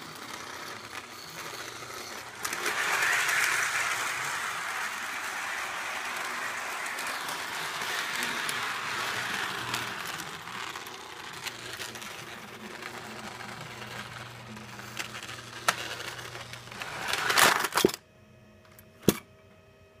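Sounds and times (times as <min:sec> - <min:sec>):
model train motor whirring: 0:00.0 - 0:17.8.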